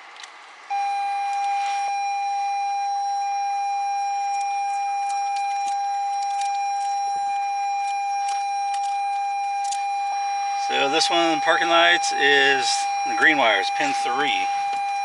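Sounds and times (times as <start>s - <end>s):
dashboard warning chime tone: 0.7s - 15.0s.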